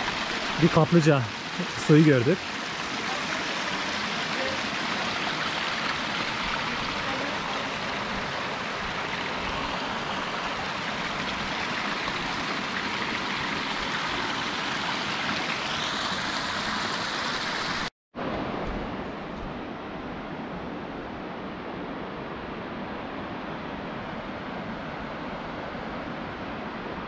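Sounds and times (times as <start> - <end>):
river rushing: 0.0 - 27.0.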